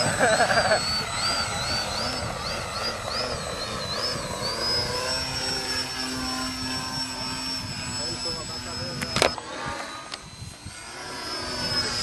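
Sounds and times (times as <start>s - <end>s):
model plane motor whining: 0.0s - 12.0s.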